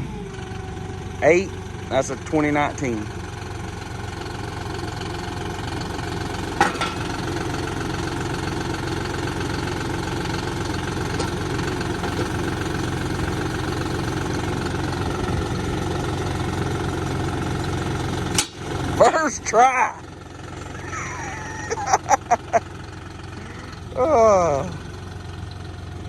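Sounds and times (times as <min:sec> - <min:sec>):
tractor engine idling: 0:00.0 - 0:26.0.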